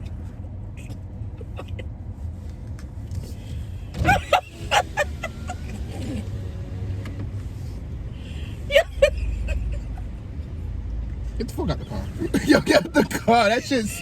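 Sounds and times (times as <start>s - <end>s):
road rumble inside car: 0.0s - 14.0s.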